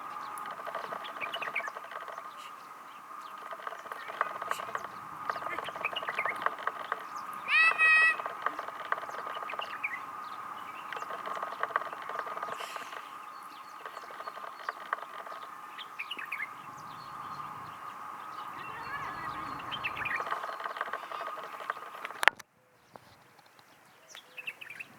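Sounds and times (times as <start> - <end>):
steady high drone: 0.0 - 22.2
birds chirping: 0.0 - 24.9.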